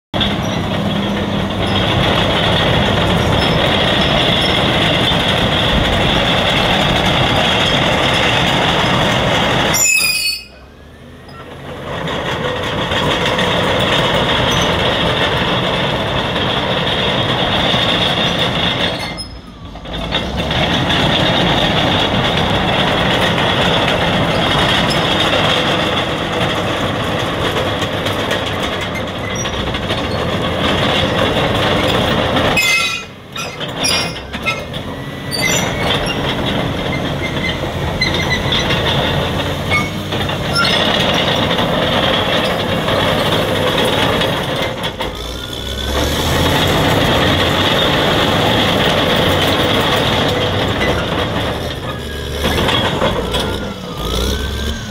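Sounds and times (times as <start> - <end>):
bulldozer diesel engine running: 0.1 - 54.9
steel tracks clattering and squealing: 0.2 - 54.9.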